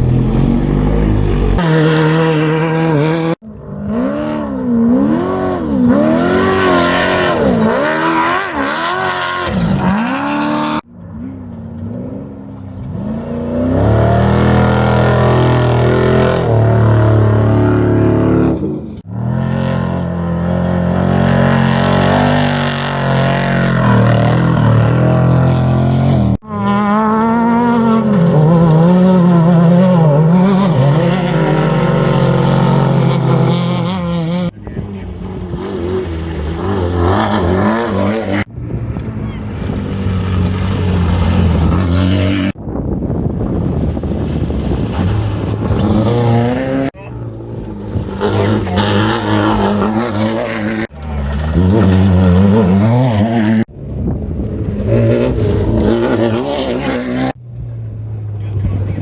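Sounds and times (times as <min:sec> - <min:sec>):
race engines revving: 0:00.0 - 0:59.0.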